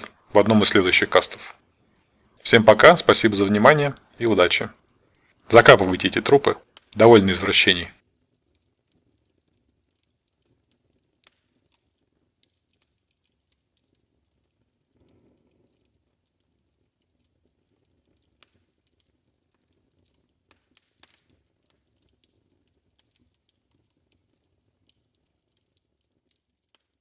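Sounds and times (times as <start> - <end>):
small clicks and ticks: 3.5 - 27.0.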